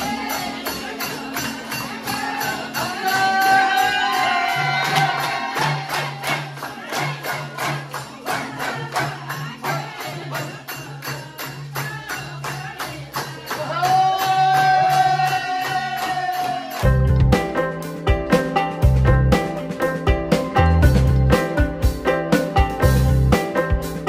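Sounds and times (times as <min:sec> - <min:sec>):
jingling tambourine: 0:00.0 - 0:24.0
quick percussion beat: 0:00.0 - 0:24.0.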